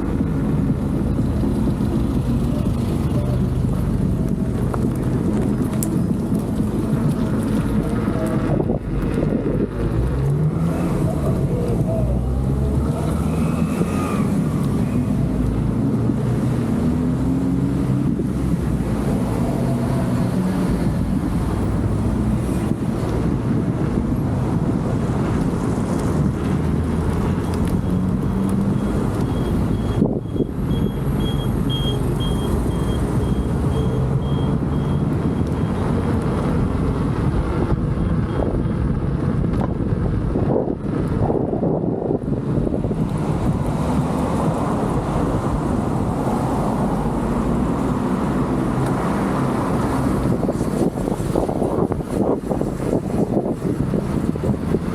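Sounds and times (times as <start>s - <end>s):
wind on microphone: 0.0s - 54.9s.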